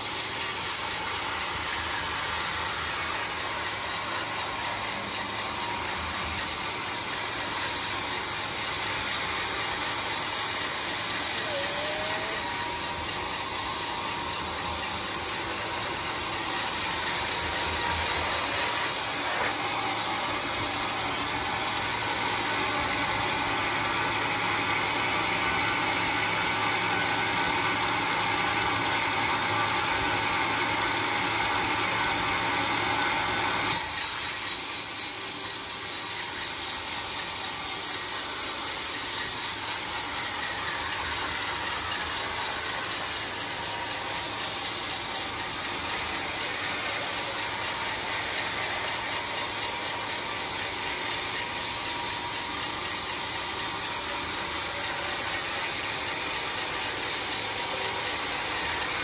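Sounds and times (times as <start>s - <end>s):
bandsaw sawmill running: 0.0s - 59.0s.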